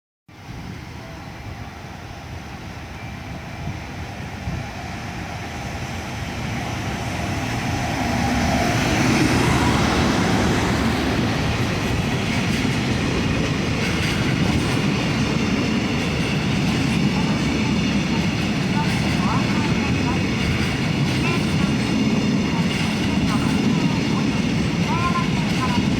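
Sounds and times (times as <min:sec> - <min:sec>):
freight train rumbling past: 0:00.3 - 0:25.9.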